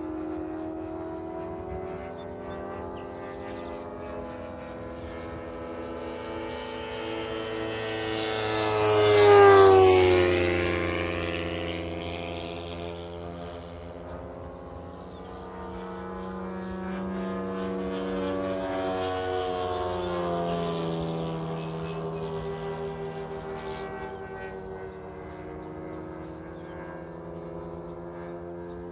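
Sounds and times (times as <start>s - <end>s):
model plane engine running hard: 0.0s - 28.9s.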